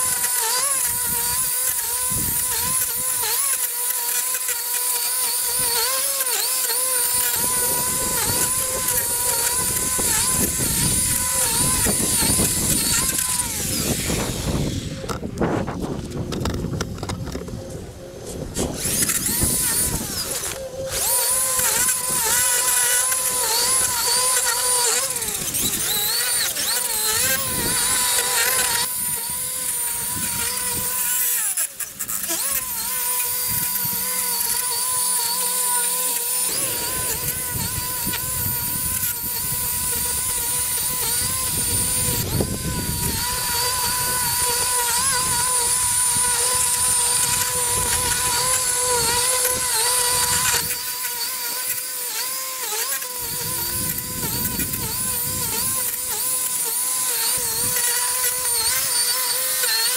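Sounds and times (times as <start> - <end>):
electric lawn equipment motor whine: 0.0 - 59.9.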